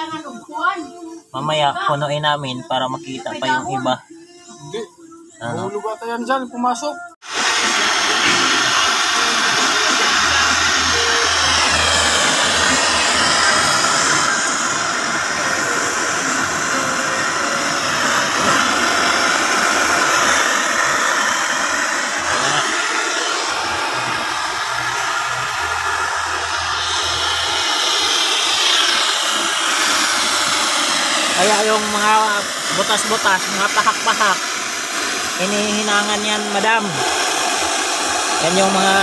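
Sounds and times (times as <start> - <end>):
torch flame hissing: 7.2 - 39.0.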